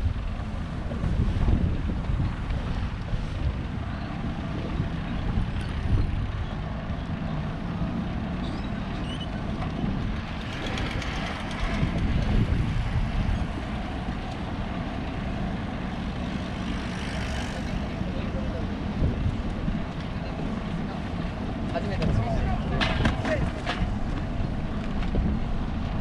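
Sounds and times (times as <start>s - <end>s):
road traffic: 0.0s - 26.0s
wind buffeting microphone: 0.0s - 26.0s.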